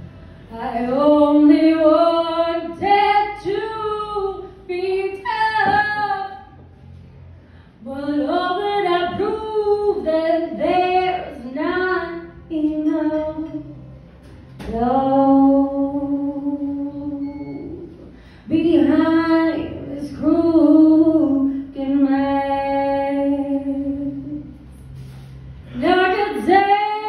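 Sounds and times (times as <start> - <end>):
woman singing through microphone: 0.5 - 6.6, 7.8 - 13.7, 14.6 - 17.9, 18.5 - 24.6, 25.7 - 27.0.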